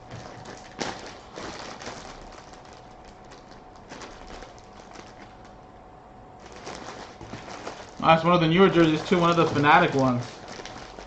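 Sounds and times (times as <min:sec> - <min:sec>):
packaging crinkling: 0:00.0 - 0:05.6, 0:06.4 - 0:11.0.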